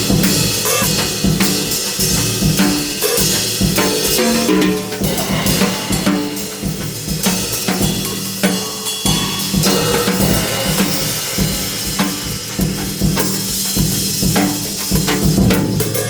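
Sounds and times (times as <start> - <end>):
background music with drum beat: 0.0 - 16.0.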